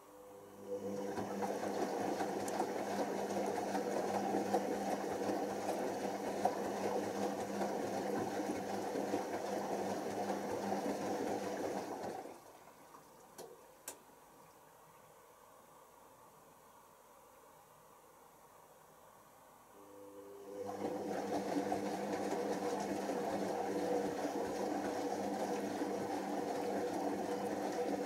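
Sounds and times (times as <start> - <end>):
drain pump electric hum: 0.0 - 14.6, 19.7 - 28.0.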